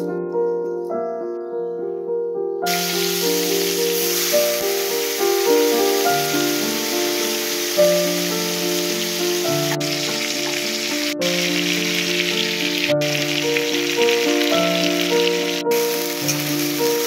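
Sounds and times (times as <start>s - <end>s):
food sizzling in a wok: 2.7s - 17.0s.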